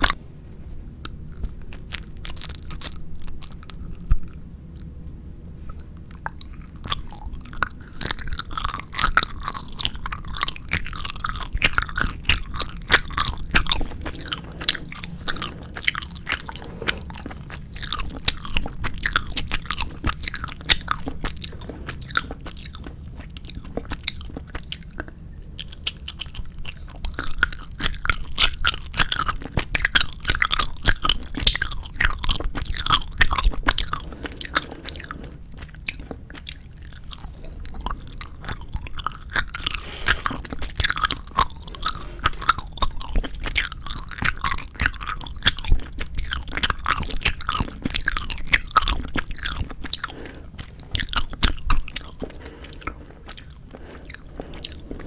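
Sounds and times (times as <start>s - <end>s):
chewing gummy candy: 0.0s - 0.2s, 1.0s - 55.0s.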